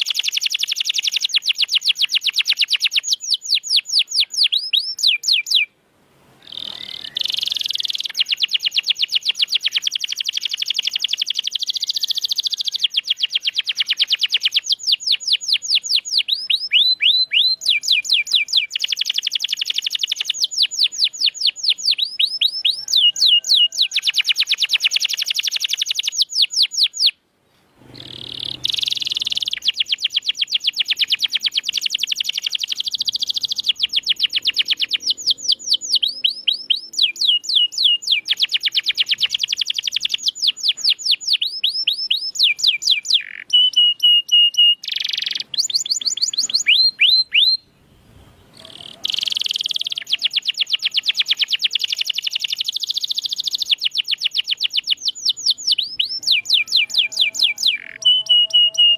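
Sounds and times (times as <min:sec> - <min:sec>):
canary singing in rolling trills: 0:00.0 - 0:05.7, 0:06.4 - 0:27.2, 0:27.8 - 0:58.9.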